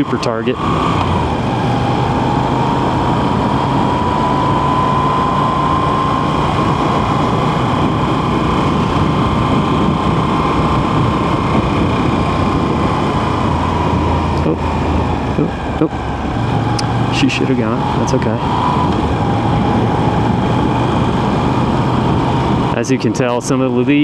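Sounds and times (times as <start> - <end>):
motorcycle engine: 0.0 - 24.0.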